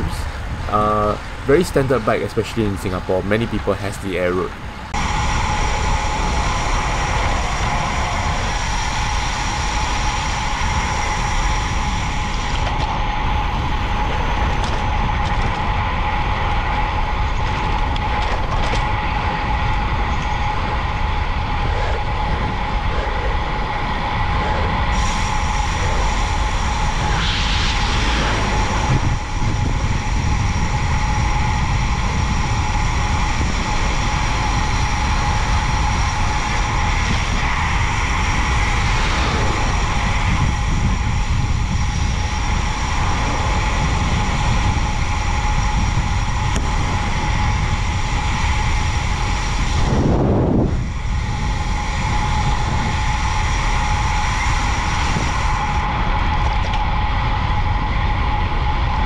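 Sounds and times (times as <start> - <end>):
constant hum: 0.0 - 59.0
wind rumble on microphone: 0.0 - 59.0.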